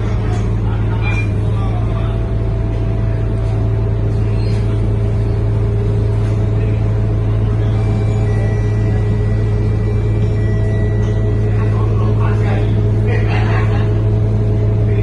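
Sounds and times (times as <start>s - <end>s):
bus diesel engine drone: 0.0s - 15.0s.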